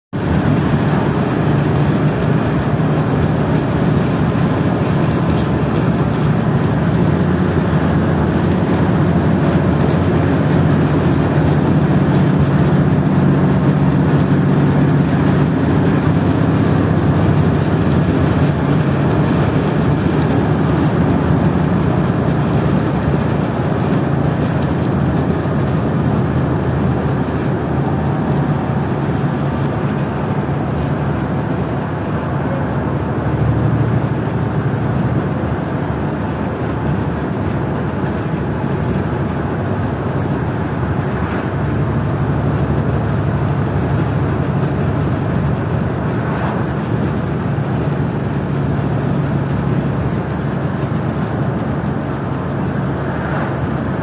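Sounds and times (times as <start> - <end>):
low engine hum: 0.1 - 54.0
tyre and road rumble: 0.1 - 54.0.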